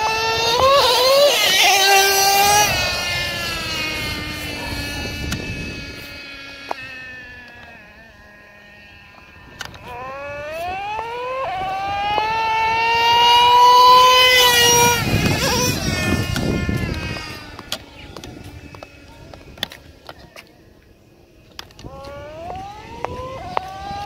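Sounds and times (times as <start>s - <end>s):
rc truck engine whining: 0.0s - 24.0s.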